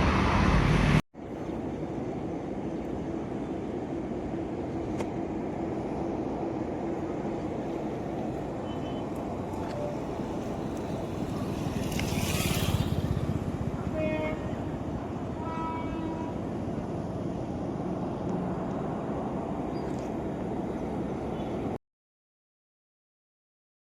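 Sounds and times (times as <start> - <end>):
railway yard low rumble: 0.0 - 21.8.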